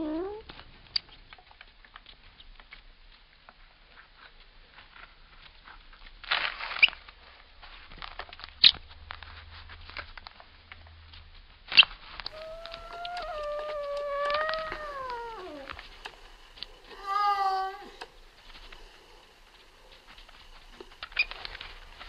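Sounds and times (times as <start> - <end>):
cat chewing with crunches: 0.5 - 22.0.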